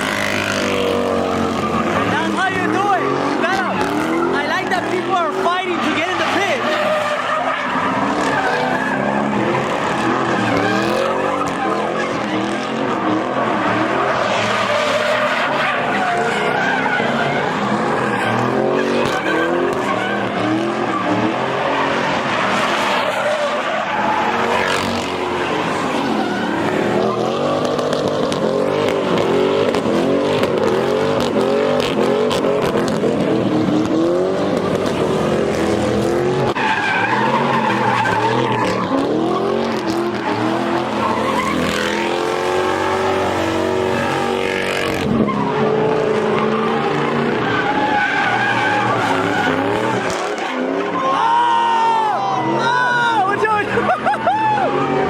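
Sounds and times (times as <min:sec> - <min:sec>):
car engines revving: 0:00.0 - 0:55.0
tyres screeching: 0:00.0 - 0:55.0.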